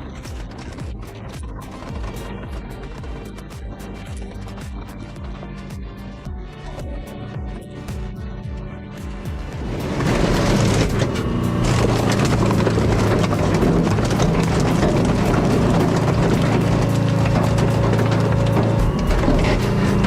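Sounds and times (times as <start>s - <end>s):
irregular knocks and clatter: 0.0s - 8.2s, 9.0s - 20.0s
heavy machinery engine hum: 0.0s - 20.0s.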